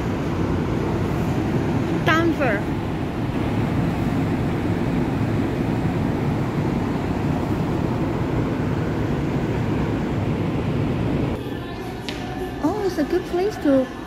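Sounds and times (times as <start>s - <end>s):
train rumbling at platform: 0.0s - 12.9s.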